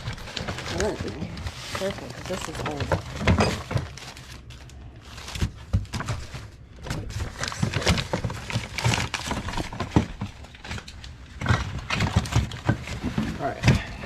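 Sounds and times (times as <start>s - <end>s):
items knocking and clunking: 0.0s - 4.5s, 5.1s - 14.0s
rustling: 0.0s - 14.0s.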